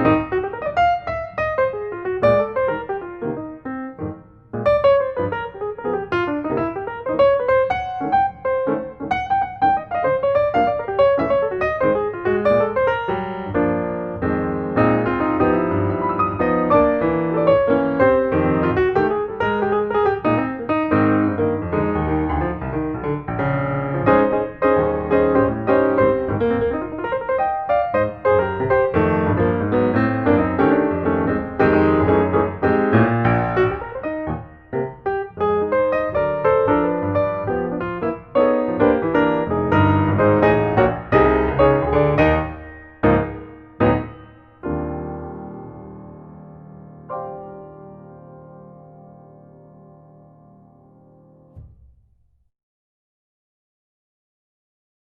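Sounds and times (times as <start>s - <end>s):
piano music: 0.0s - 51.9s.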